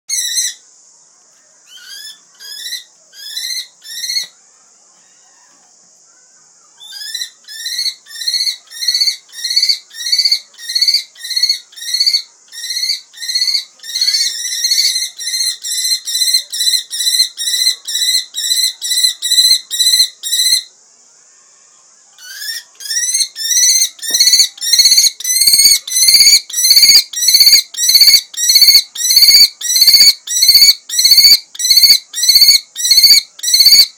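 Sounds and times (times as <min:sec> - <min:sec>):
kestrel calling: 0:00.1 - 0:00.6, 0:01.7 - 0:04.4, 0:06.6 - 0:20.7, 0:22.2 - 0:33.9.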